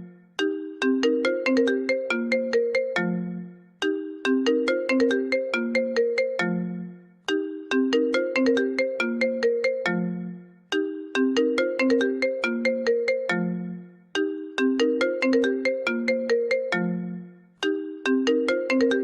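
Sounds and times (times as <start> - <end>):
phone ringtone melody: 0.0 - 19.0.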